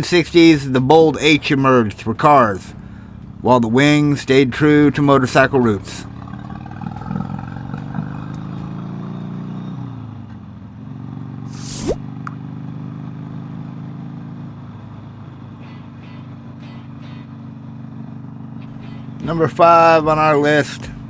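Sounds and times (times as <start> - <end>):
motorcycle engine running: 0.0 - 8.8, 10.3 - 21.0.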